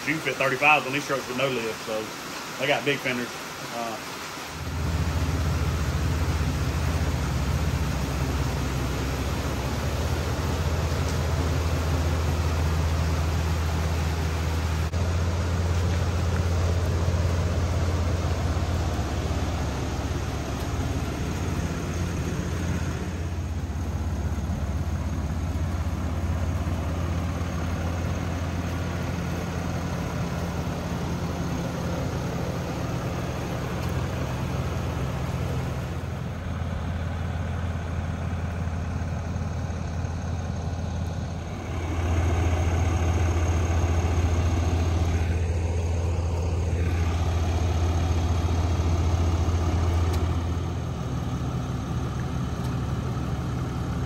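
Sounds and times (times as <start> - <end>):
pickup engine idling: 4.6 - 54.0.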